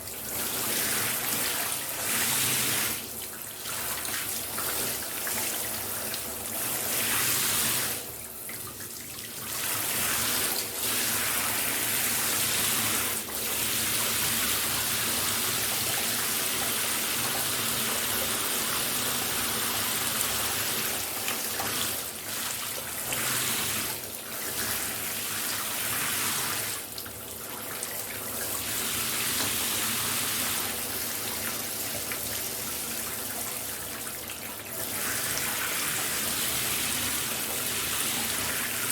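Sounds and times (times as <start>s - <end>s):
shower running: 0.0s - 38.9s.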